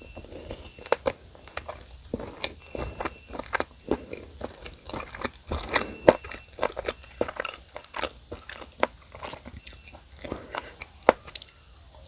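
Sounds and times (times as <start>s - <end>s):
crunching fried chicken: 0.0s - 12.0s.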